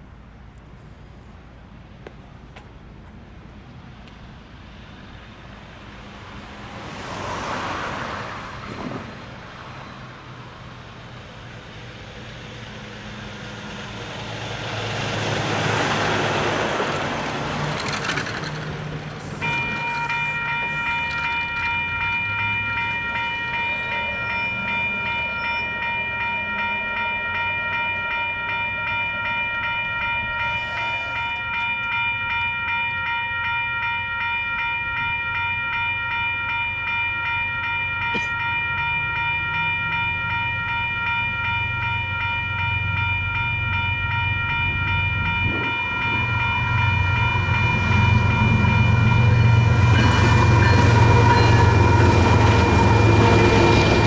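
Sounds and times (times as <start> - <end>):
road traffic passing: 0.0 - 54.0
truck passing: 3.8 - 32.0, 38.0 - 54.0
crossing bells ringing: 9.4 - 54.0.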